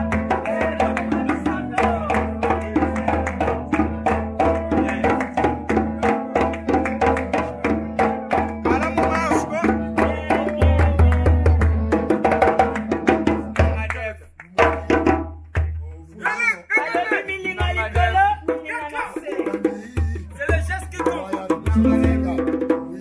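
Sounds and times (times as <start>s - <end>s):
fast percussion: 0.0s - 23.0s.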